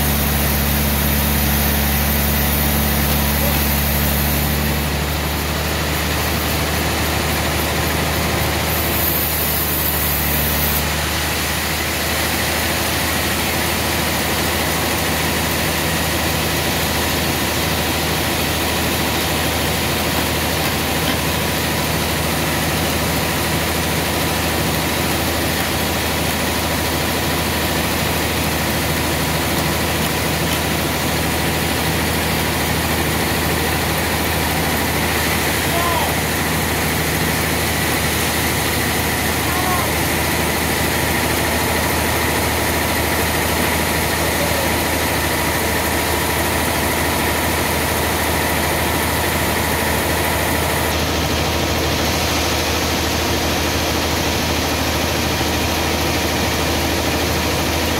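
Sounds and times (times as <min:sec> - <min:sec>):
sawmill machinery running: 0:00.0 - 0:57.9.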